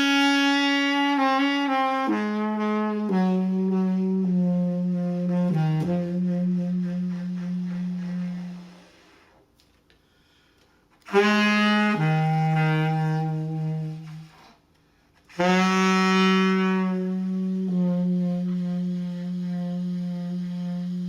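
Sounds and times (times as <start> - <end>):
saxophone playing low notes: 0.0 - 9.4, 11.0 - 21.0.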